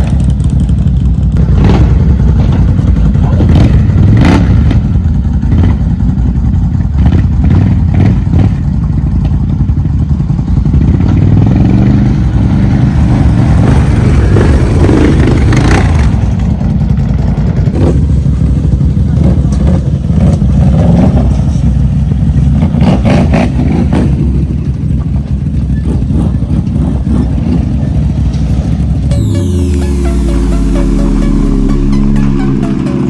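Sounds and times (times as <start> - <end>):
off-road engine revving: 1.3 - 9.1, 10.5 - 33.0.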